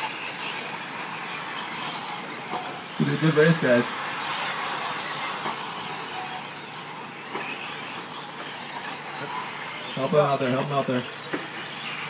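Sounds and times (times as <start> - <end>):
rc trucks racing: 0.0 - 12.0.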